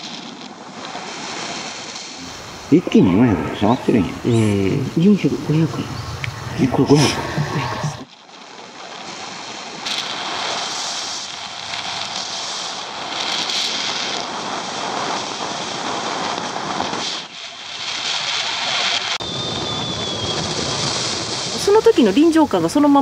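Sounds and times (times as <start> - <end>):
wind hiss on camera microphone: 0.0 - 23.0.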